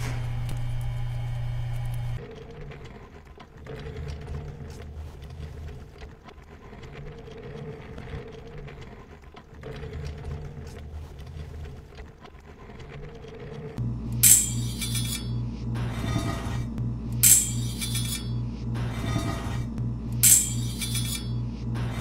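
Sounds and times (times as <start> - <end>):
small mechanism whirring hum: 0.0 - 22.0.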